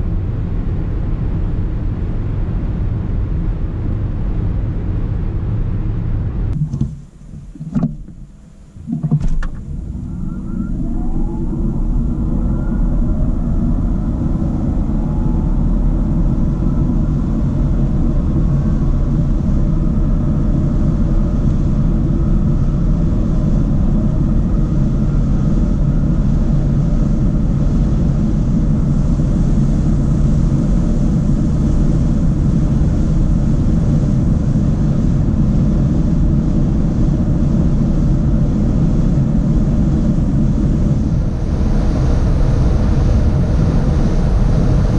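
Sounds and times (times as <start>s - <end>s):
tyre and wind noise: 6.4s - 44.9s.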